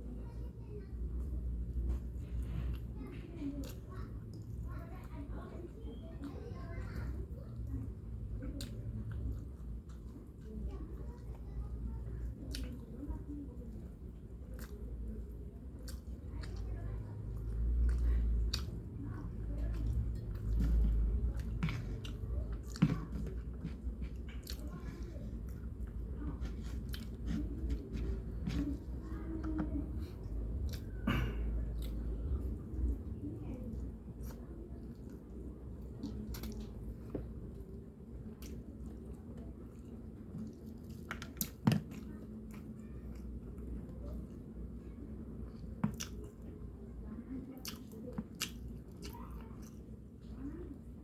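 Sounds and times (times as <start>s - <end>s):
person chewing food: 1.2s - 46.7s, 47.5s - 51.0s.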